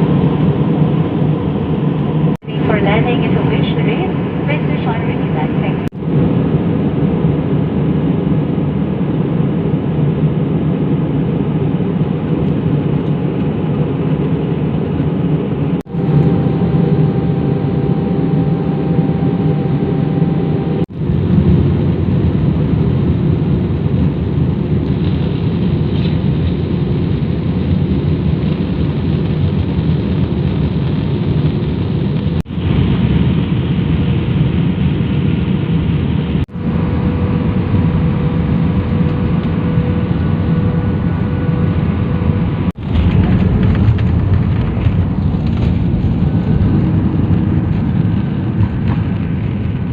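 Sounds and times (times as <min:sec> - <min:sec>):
airliner cabin jet engine drone: 0:00.0 - 0:49.9.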